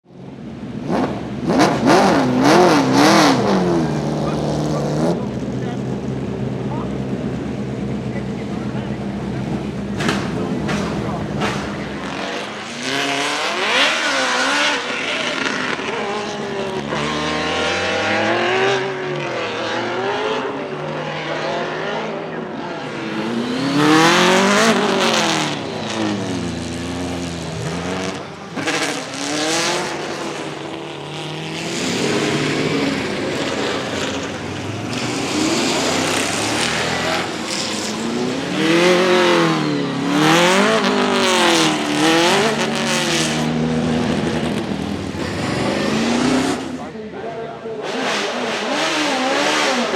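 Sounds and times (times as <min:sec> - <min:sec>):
racing engine revving hard: 0:00.8 - 0:05.8, 0:09.4 - 0:47.0, 0:47.8 - 0:49.9.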